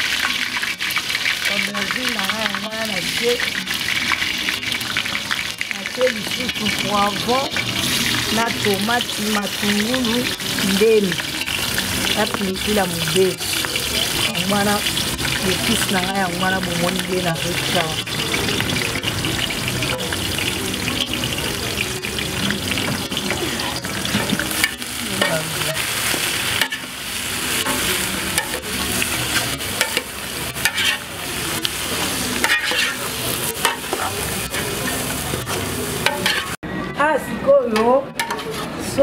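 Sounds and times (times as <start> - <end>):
vegetables sizzling in oil: 0.0 - 36.6.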